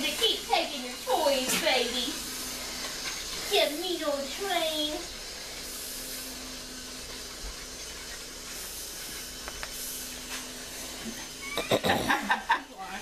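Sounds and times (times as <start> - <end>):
toy train running on track: 0.0 - 11.7
faint motor hum: 0.0 - 13.0.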